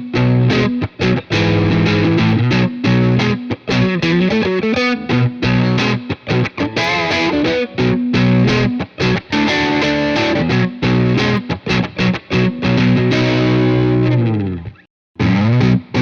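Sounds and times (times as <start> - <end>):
overdriven electric guitar riff: 0.0 - 16.0.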